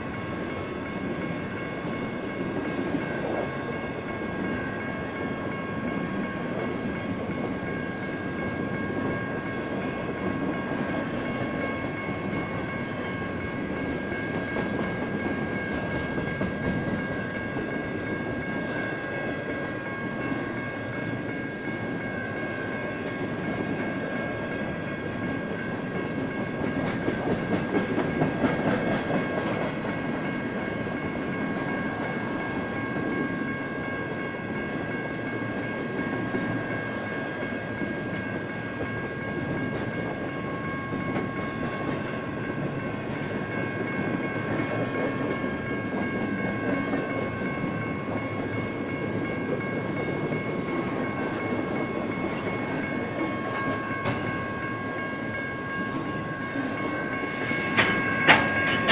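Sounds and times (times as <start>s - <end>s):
crossing bells ringing: 0.0s - 58.9s.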